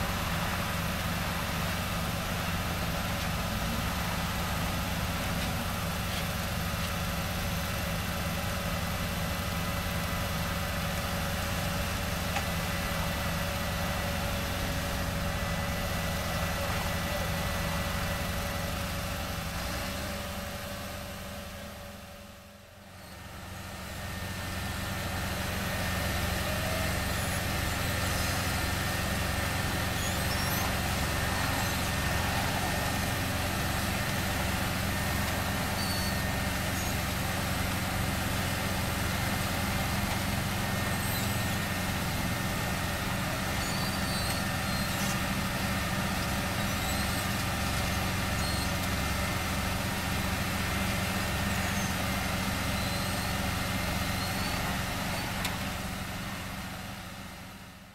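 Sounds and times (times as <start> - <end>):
heavy diesel engines running: 0.0 - 57.9.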